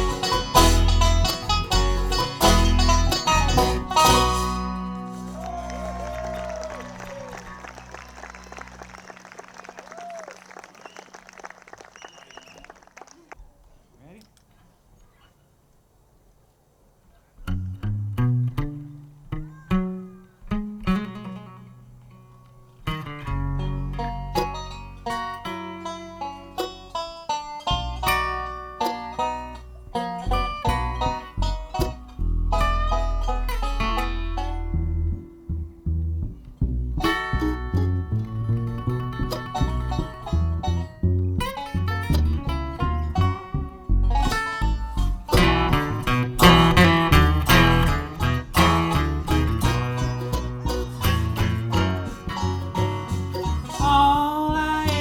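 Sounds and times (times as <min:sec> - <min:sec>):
plucked string notes: 0:00.0 - 0:09.4, 0:17.4 - 0:55.0
low bass notes: 0:00.0 - 0:09.6, 0:17.5 - 0:55.0
picked acoustic guitar: 0:00.0 - 0:09.6, 0:17.4 - 0:55.0
banjo: 0:00.0 - 0:09.8, 0:17.5 - 0:55.0
bluegrass band playing: 0:00.0 - 0:11.8, 0:17.8 - 0:55.0.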